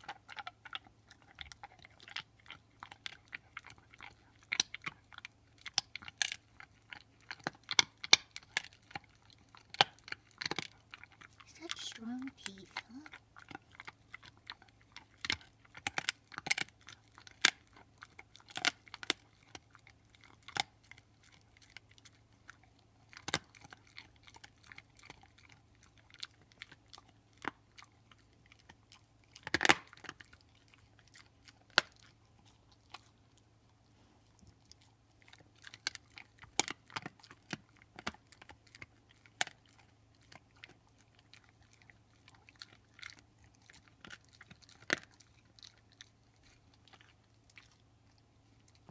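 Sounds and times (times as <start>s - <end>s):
dog gnawing on a bone: 0.0s - 48.9s.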